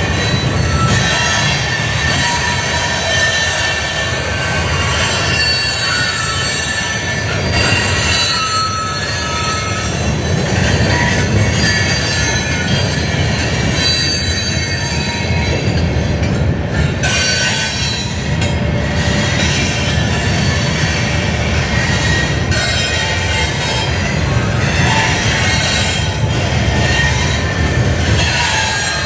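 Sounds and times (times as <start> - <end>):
train cars rumbling past: 0.0 - 29.0
wheel squeals: 0.0 - 29.0.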